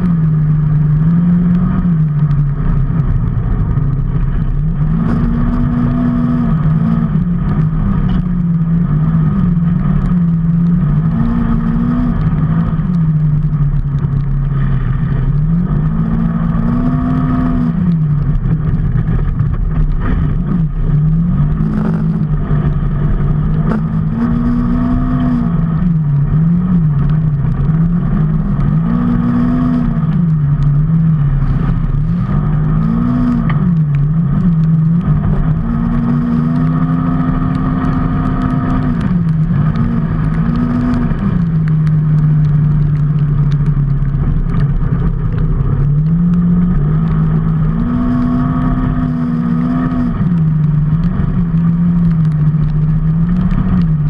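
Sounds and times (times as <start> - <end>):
road noise rush: 0.0 - 54.0
vehicle engine speeding up: 0.0 - 54.0.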